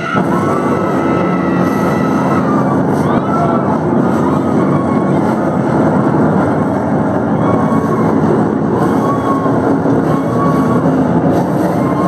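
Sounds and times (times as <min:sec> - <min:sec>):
large crowd din: 0:00.0 - 0:12.0.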